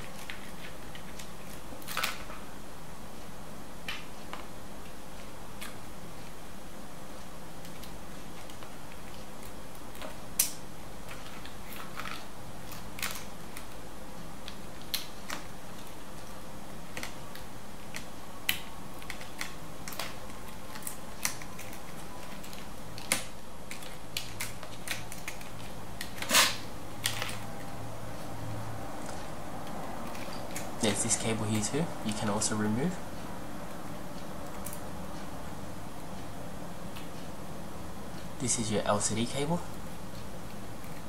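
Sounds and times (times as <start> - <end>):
background hiss: 0.0 - 41.0.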